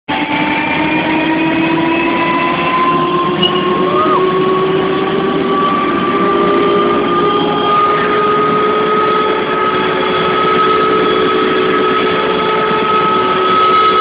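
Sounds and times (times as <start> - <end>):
helicopter turbine engine spooling up: 0.1 - 14.0.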